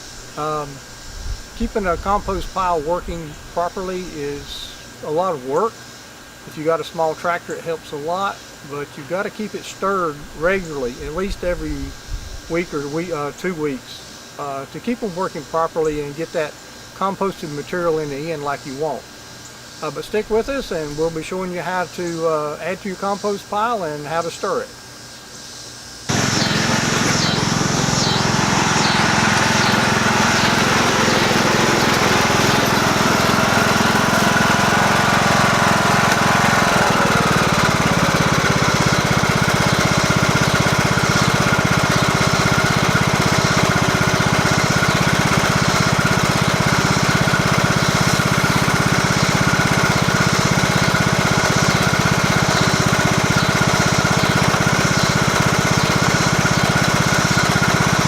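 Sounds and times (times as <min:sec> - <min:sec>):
lawn mower engine running: 0:00.0 - 0:23.1, 0:26.1 - 0:58.0.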